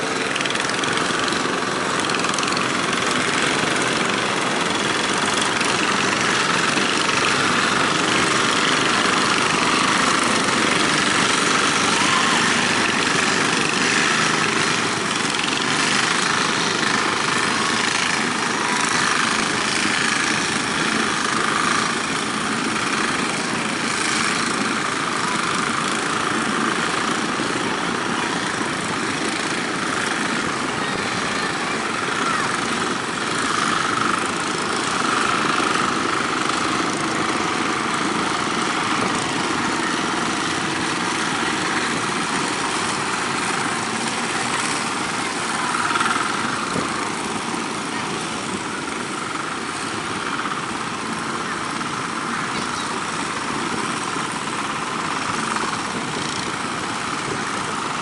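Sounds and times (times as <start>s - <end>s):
boat engines running: 0.0s - 58.0s
wind: 0.0s - 58.0s.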